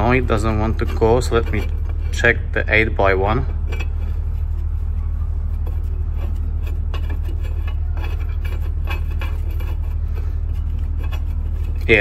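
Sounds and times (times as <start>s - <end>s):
metallic clicks and rubbing: 0.0s - 12.0s
steady low hum: 0.0s - 12.0s.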